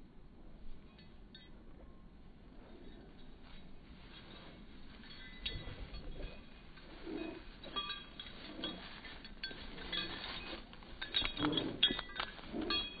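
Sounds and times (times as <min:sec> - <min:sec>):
metal dog tags jingling: 0:02.6 - 0:13.0.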